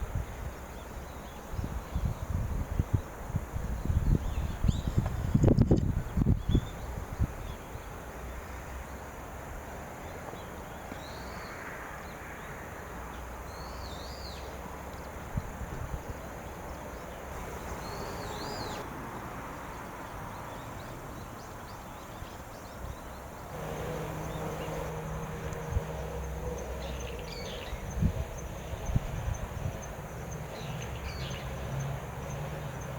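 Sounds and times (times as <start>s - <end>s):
background hiss: 0.0s - 32.9s.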